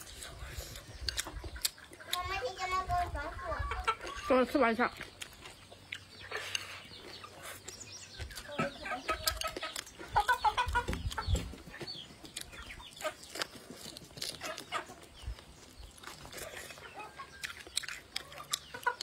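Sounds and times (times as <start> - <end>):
close-up chewing: 0.0 - 2.3, 4.9 - 11.4, 12.0 - 19.0
chickens clucking: 0.0 - 19.0.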